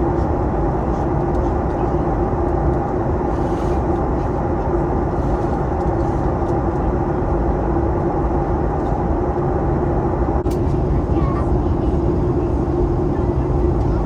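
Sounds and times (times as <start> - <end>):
airplane cabin airflow and engine hum: 0.0 - 14.0.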